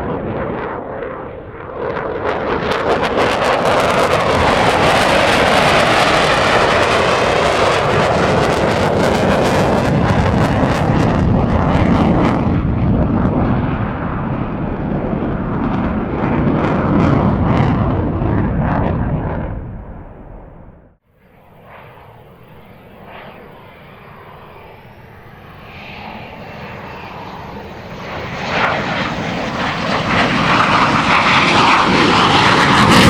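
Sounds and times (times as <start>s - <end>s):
fighter jet roaring overhead: 0.0s - 33.0s.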